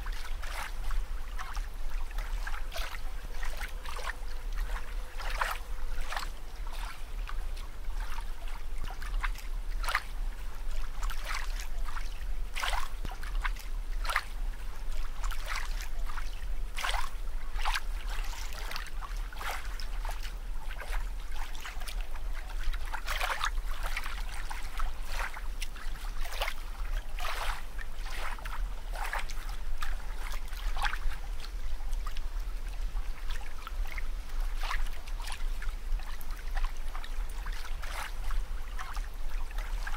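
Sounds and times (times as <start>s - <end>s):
steady low hum: 0.0s - 39.9s
water bubbling and splashing: 0.0s - 39.9s.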